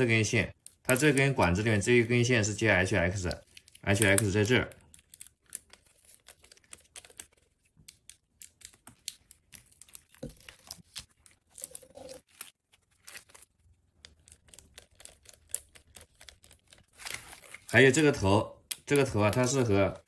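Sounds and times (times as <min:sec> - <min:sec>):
wires and wrapping crinkling: 0:00.0 - 0:20.0.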